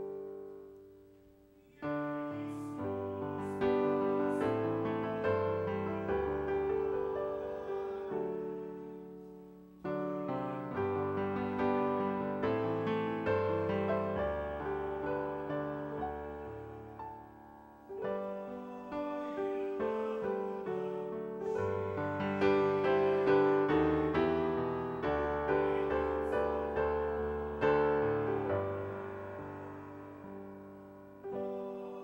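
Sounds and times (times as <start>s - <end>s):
slow gentle piano: 0.0s - 32.0s.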